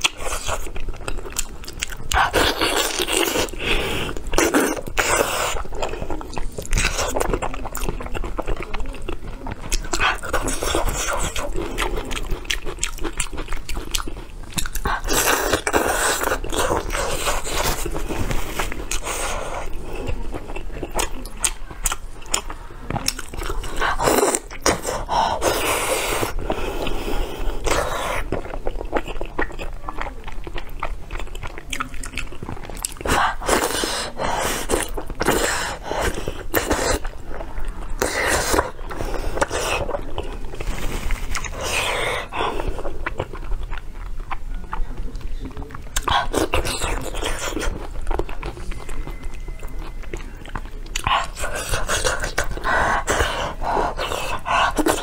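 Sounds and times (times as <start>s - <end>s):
biting and chewing crunchy food: 0.0s - 55.0s.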